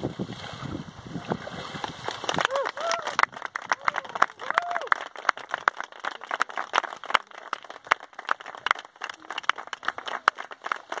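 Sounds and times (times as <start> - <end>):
people clapping unevenly: 1.6 - 11.0.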